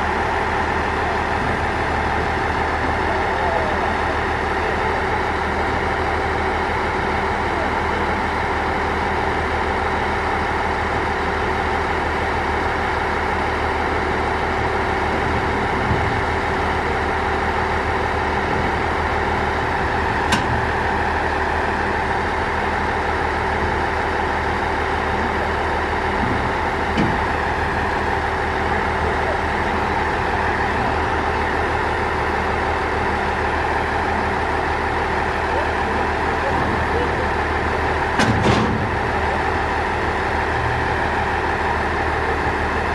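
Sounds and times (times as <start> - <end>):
diesel railcar engine idling: 0.0 - 42.9.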